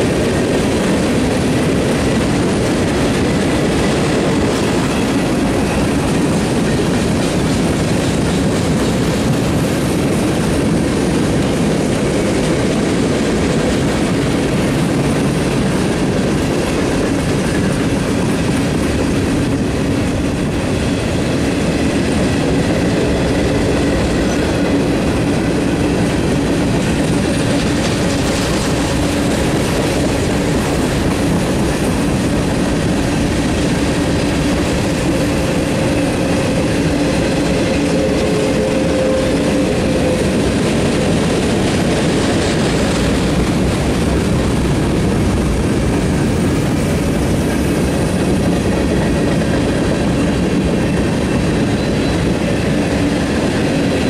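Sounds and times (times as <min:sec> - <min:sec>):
clickety-clack over rail joints: 0:00.0 - 0:54.0
freight train wheels rumbling on rails: 0:00.0 - 0:54.0.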